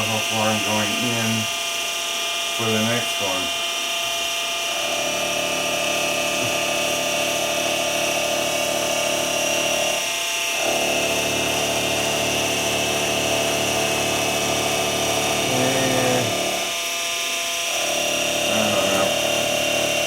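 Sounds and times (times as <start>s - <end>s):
milling machine motor whine: 0.0s - 20.0s.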